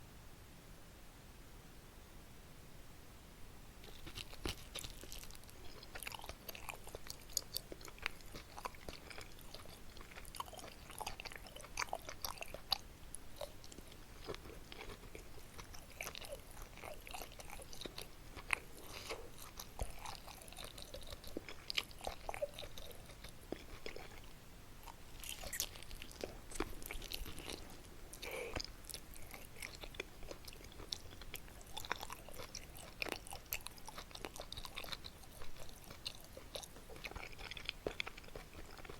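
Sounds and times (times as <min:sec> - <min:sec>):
close-up chewing: 0:03.8 - 0:38.9.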